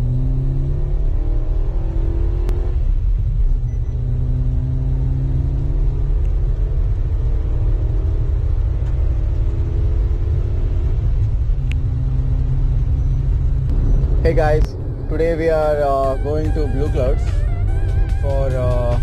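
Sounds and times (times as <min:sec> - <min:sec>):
car engine accelerating: 0:00.0 - 0:19.0
road rumble inside car: 0:00.0 - 0:19.0.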